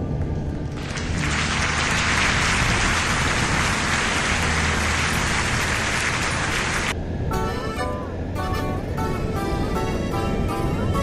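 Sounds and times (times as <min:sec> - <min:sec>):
low steady hum: 0:00.0 - 0:11.0
motorcycle road noise: 0:00.0 - 0:11.0
rushing wind: 0:00.0 - 0:11.0.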